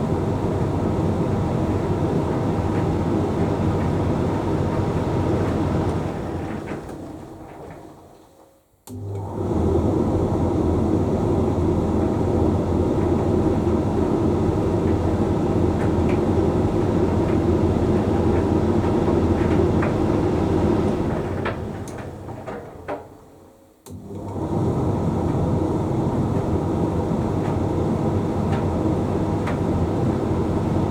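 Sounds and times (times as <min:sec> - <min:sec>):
tumble dryer running: 0:00.0 - 0:08.0, 0:08.9 - 0:23.1, 0:23.9 - 0:30.9.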